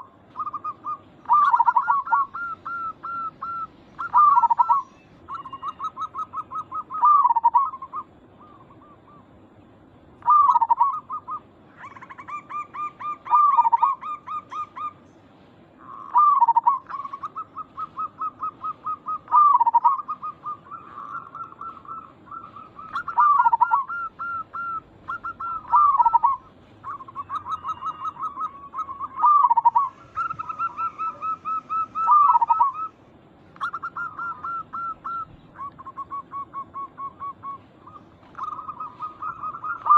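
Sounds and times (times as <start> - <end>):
dove cooing: 0.0 - 9.4, 10.2 - 15.1, 15.8 - 39.9
higher fainter bird notes: 0.0 - 39.9.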